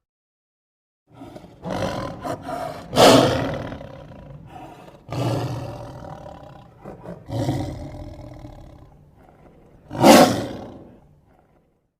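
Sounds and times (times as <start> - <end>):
lion grunts: 1.1 - 11.9
lion roaring: 1.1 - 11.9.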